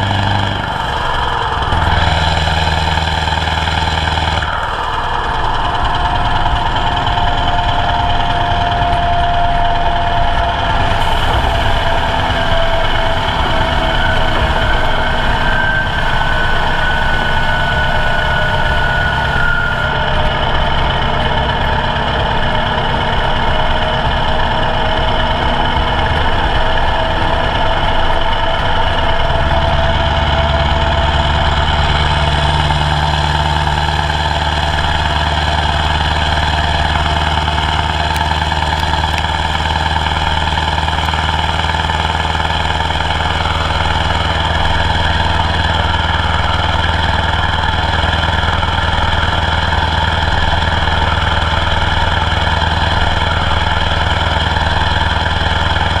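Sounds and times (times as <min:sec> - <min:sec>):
road noise: 0:00.0 - 0:56.0
truck diesel engine droning: 0:00.0 - 0:56.0
rushing wind: 0:04.3 - 0:56.0.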